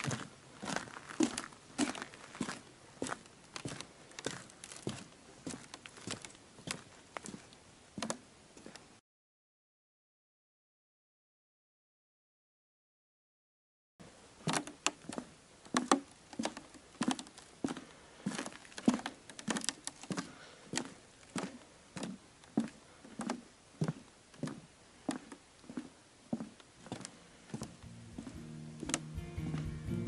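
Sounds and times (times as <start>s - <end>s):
footsteps on wooden boardwalk: 0.0s - 8.9s, 14.4s - 30.0s.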